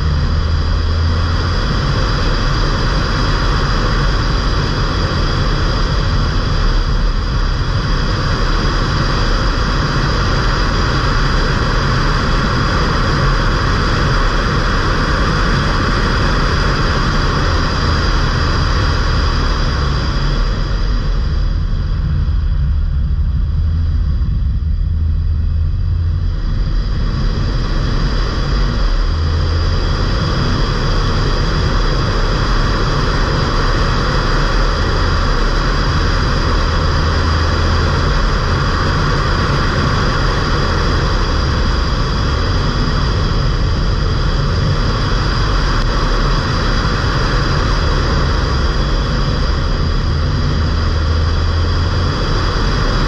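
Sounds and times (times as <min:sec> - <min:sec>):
diesel engine hum: 0:00.0 - 0:53.0
road and wind noise: 0:00.0 - 0:53.0.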